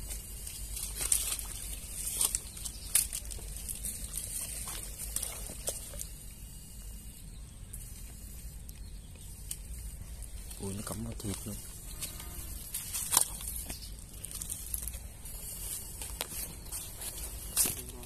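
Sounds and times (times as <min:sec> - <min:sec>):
sharp crackles: 0:00.0 - 0:06.2, 0:07.7 - 0:18.0
sticks and leaves rustling: 0:00.0 - 0:06.2, 0:08.6 - 0:18.0.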